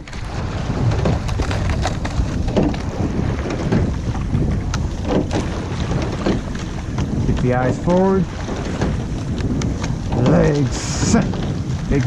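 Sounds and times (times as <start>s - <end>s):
water rushing past boat: 0.0s - 12.0s
wind buffeting microphone: 0.0s - 12.0s.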